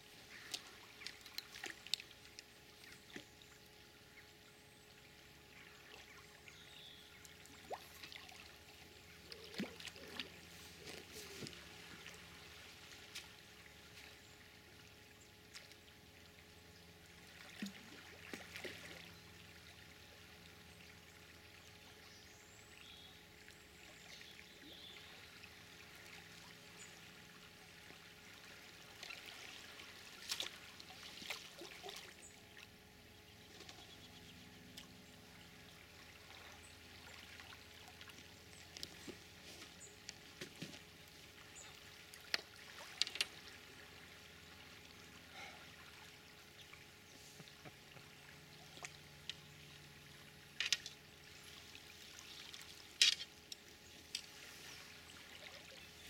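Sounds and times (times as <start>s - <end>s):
faint running water: 0.0s - 56.0s.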